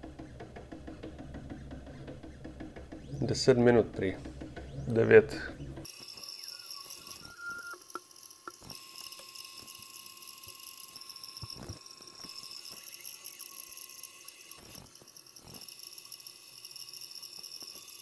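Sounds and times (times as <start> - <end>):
stepper motors whining: 2.9 - 18.0.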